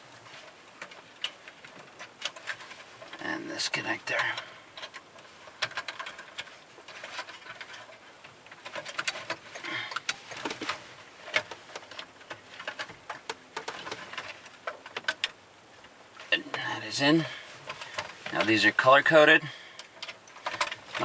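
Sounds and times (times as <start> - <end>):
light rattles: 0.0 - 21.0
wiring rustling: 0.0 - 21.0.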